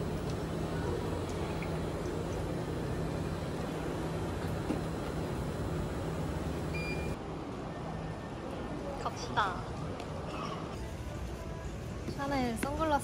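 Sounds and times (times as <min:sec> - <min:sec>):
conveyor humming: 0:00.0 - 0:13.0.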